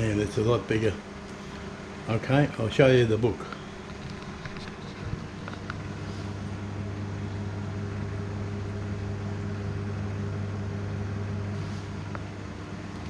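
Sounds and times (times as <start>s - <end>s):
microwave fan whirring: 0.0s - 13.0s
microwave oven humming: 0.0s - 13.0s.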